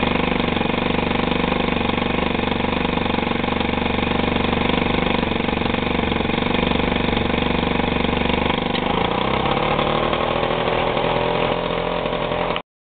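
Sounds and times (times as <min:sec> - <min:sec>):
moped engine idling: 0:00.0 - 0:12.6.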